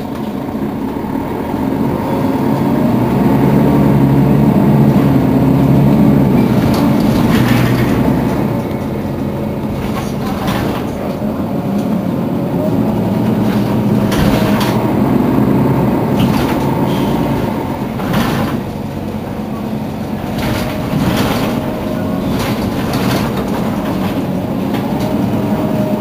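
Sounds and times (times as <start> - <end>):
bus diesel engine idling: 0.0 - 26.0.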